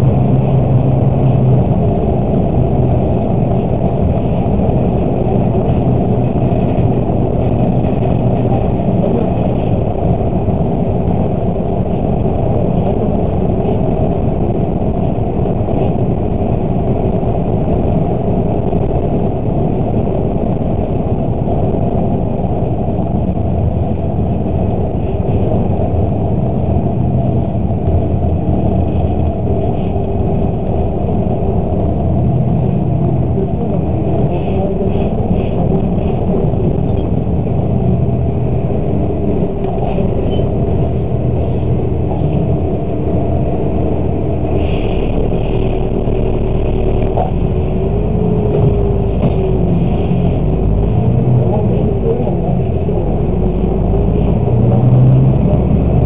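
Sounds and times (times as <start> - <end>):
engine and road noise in cab: 0.0 - 56.0.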